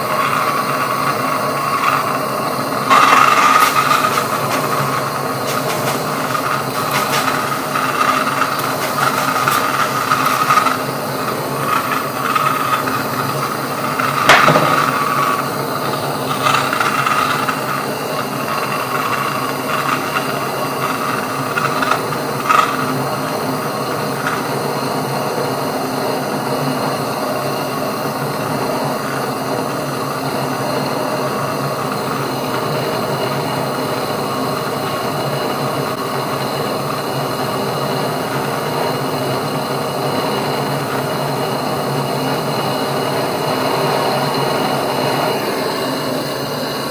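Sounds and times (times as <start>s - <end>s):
gas torch flame hissing: 0.0s - 46.9s.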